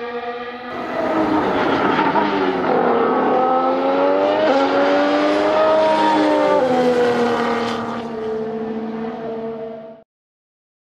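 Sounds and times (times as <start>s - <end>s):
racing car engine accelerating: 0.0s - 10.0s.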